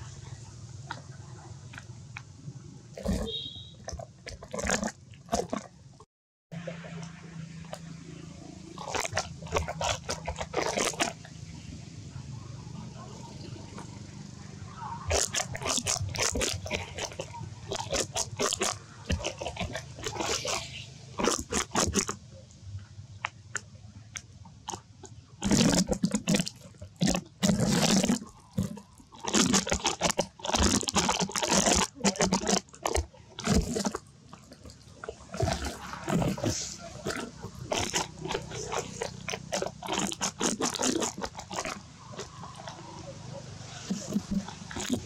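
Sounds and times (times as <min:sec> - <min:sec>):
monkey crunching fruit: 0:03.0 - 0:05.8, 0:06.6 - 0:11.4, 0:15.0 - 0:22.2, 0:23.2 - 0:45.0.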